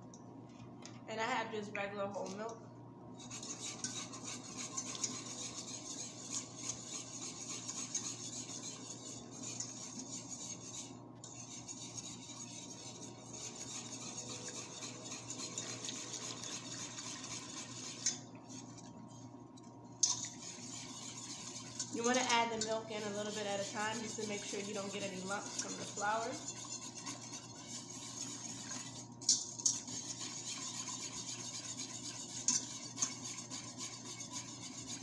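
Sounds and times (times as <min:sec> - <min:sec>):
utensil scraping against a pan: 0:03.2 - 0:19.4, 0:20.0 - 0:35.0.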